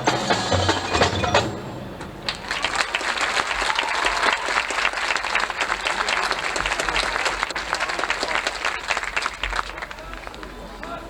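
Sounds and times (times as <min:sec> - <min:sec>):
stadium crowd applauding and cheering: 0:00.0 - 0:11.0.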